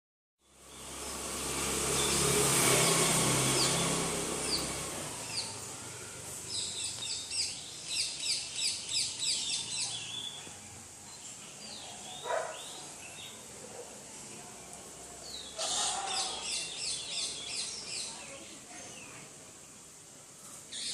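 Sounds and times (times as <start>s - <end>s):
small birds chirping: 0.4s - 20.9s.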